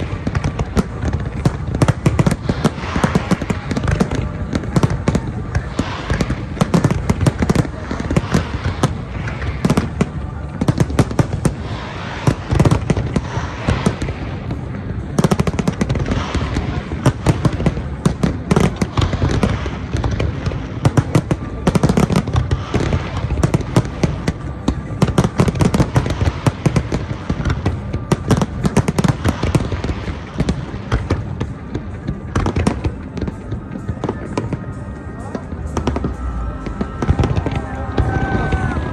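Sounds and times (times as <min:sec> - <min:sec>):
fireworks bursting and crackling: 0:00.0 - 0:38.9.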